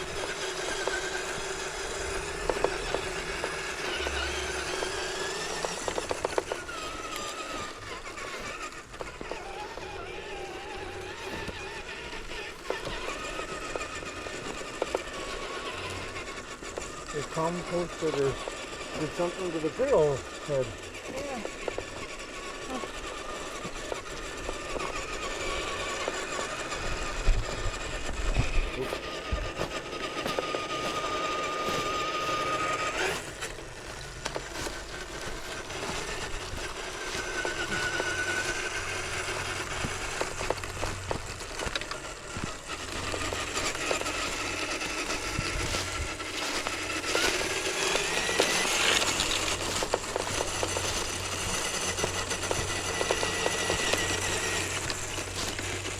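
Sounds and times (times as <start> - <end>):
clicks and crunches: 0.0 - 17.2, 18.0 - 55.9
rc car motor whining: 0.0 - 55.9.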